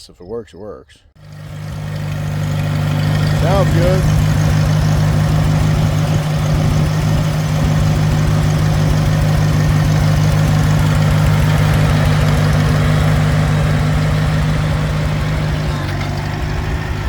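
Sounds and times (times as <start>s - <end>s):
engine idling: 1.2s - 17.0s.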